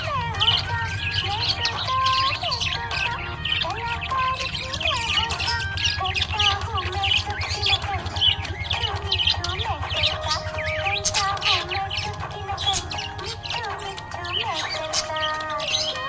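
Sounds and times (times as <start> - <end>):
budgerigar squawks: 0.0 - 16.0
budgerigars chirping and warbling: 0.0 - 16.0.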